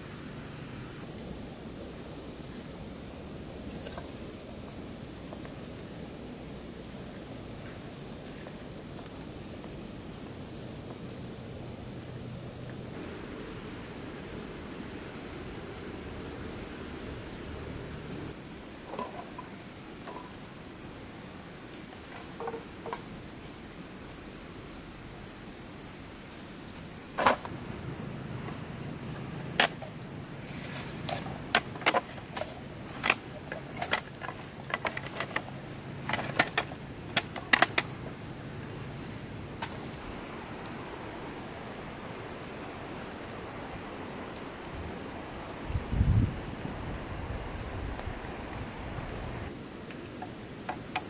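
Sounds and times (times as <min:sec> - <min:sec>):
high insect buzz: 0:00.8 - 0:51.0.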